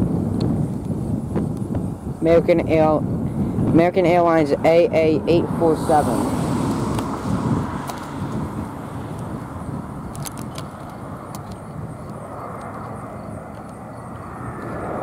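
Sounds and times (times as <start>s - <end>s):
airliner jet engines: 0.0s - 15.0s
vehicle rumble: 0.0s - 15.0s.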